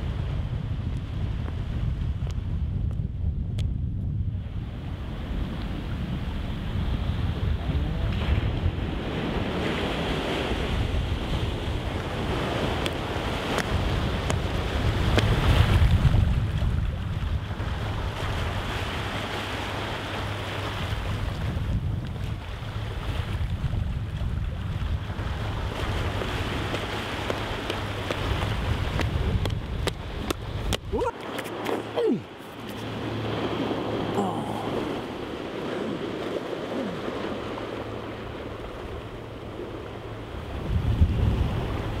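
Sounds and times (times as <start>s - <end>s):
wind buffeting microphone: 0.0s - 42.0s
sea surf on rocky shore: 4.4s - 42.0s.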